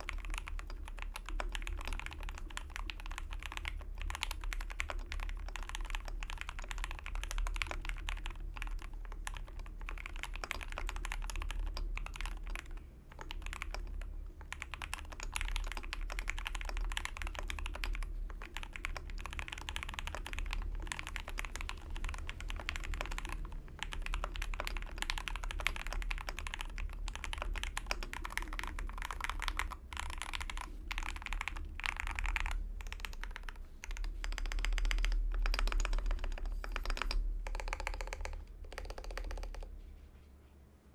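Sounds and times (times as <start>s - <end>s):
fast typing on mechanical keyboard: 0.0s - 39.7s
steady low hum: 0.0s - 40.9s.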